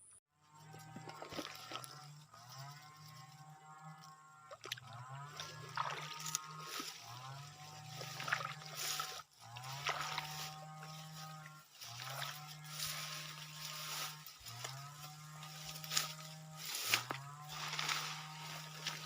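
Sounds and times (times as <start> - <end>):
low drone: 0.9 - 19.0.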